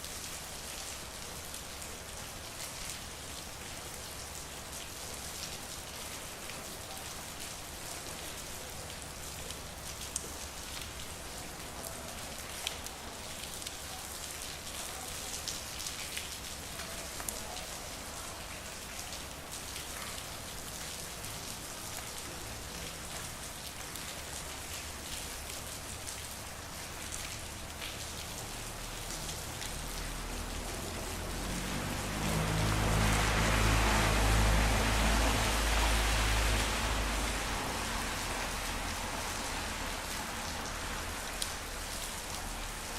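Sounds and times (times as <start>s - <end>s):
rain falling on street: 0.0s - 42.9s.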